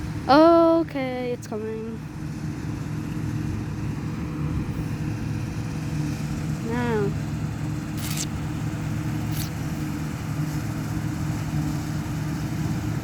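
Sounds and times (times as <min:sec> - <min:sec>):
combine harvester engine: 0:00.0 - 0:13.0.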